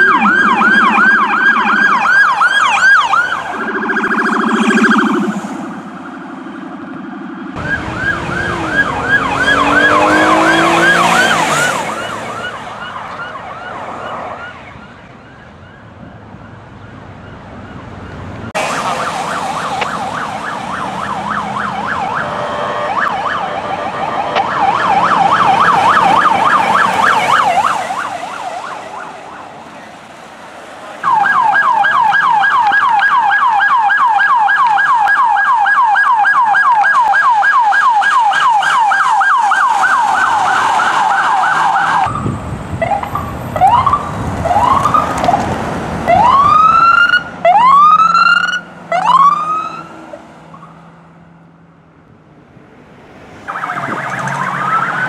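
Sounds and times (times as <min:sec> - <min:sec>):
lower siren tone sweeping: 0:00.0 - 0:29.6, 0:31.0 - 0:45.4, 0:46.1 - 0:50.9, 0:53.4 - 0:55.0
police siren yelp: 0:00.0 - 0:30.0, 0:30.9 - 0:50.9, 0:53.4 - 0:55.0.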